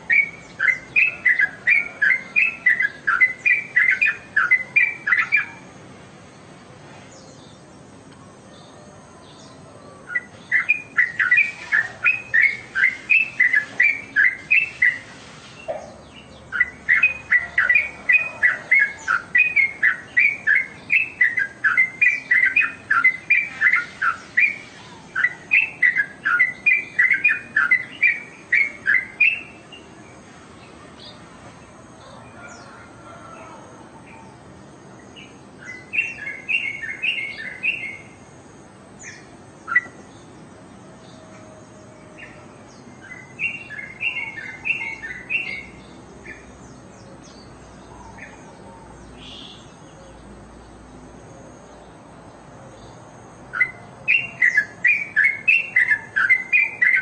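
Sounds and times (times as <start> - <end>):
bird chattering song: 0.0 - 6.5, 7.1 - 31.2, 34.0 - 38.3, 38.9 - 57.0.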